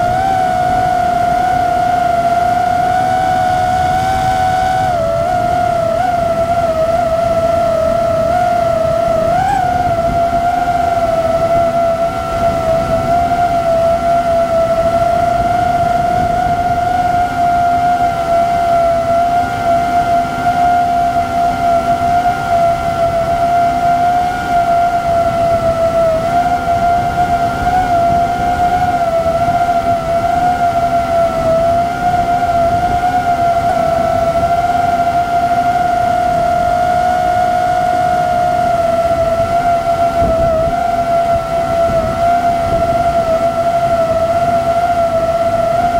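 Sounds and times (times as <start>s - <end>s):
drone propellers whining: 0.0s - 45.9s.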